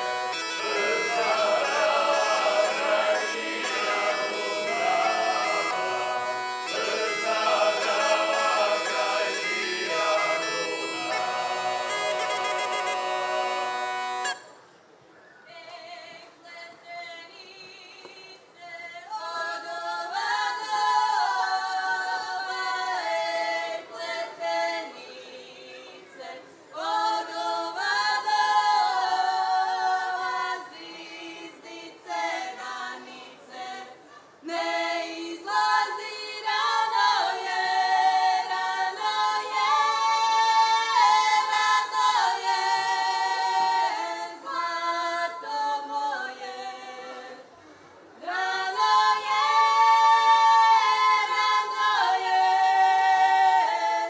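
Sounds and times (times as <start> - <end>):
women singing a cappella: 0.0 - 14.4, 15.5 - 47.6, 48.2 - 54.0.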